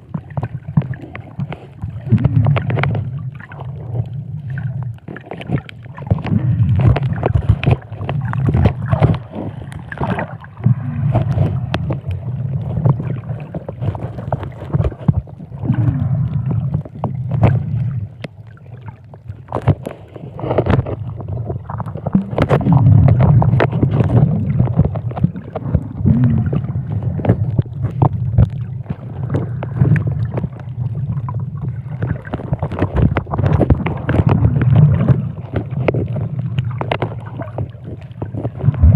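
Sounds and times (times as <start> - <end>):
muffled underwater rumble: 0.0 - 38.9
underwater clicks and gurgles: 0.0 - 38.9.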